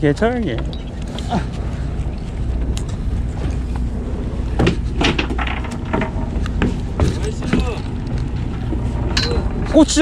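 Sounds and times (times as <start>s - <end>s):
knocks and clatter on boat: 0.0s - 10.0s
low rumble: 0.0s - 10.0s.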